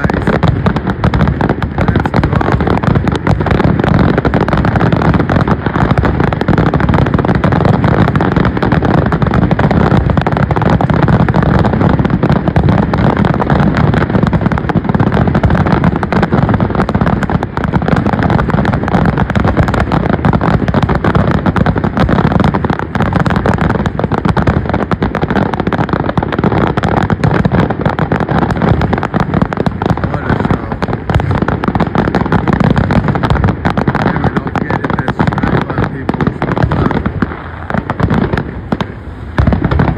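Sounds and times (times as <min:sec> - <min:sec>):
fireworks booming: 0:00.0 - 0:39.9.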